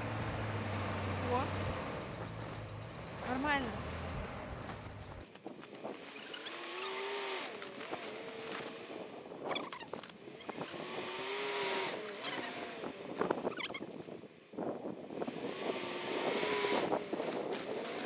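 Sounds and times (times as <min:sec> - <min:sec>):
car engine revving: 0:00.0 - 0:05.2, 0:06.0 - 0:09.3, 0:10.4 - 0:13.4, 0:15.2 - 0:18.0
tyres spinning in snow: 0:00.0 - 0:18.0.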